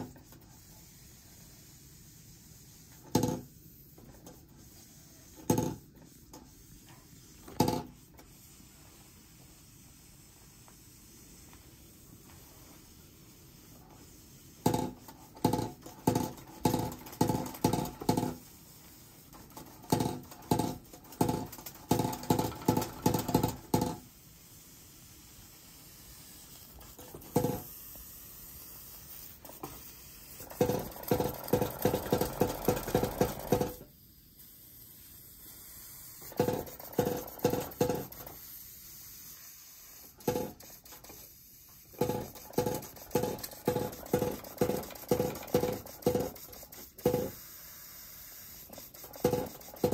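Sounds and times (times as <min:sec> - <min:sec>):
soft steady steam hiss: 0:00.0 - 0:49.9.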